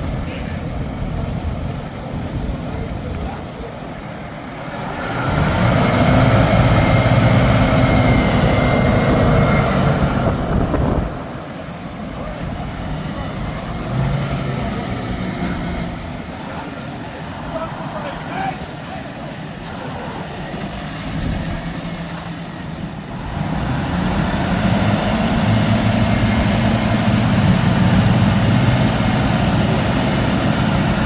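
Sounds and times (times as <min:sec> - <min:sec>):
heavy diesel engine revving: 0:00.0 - 0:31.0.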